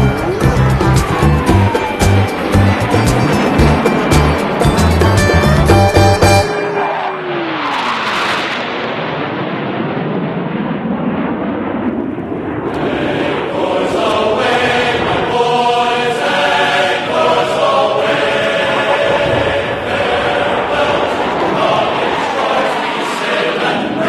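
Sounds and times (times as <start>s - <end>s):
steady sustained tones: 0.0s - 8.8s, 12.7s - 24.0s
jet roar passing: 0.0s - 24.0s.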